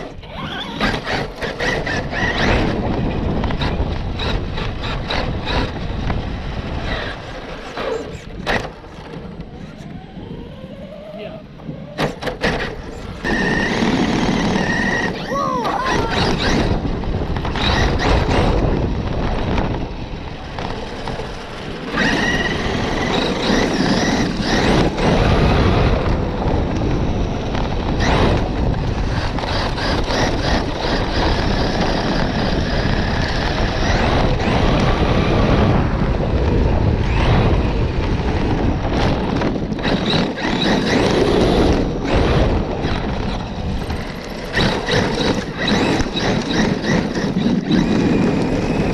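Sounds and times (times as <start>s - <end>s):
tyres and chassis rattling: 0.0s - 48.9s.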